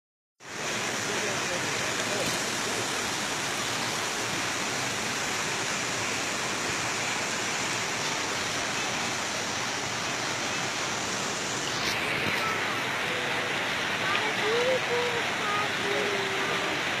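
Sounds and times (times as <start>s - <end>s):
water pouring and splashing: 0.4s - 17.0s.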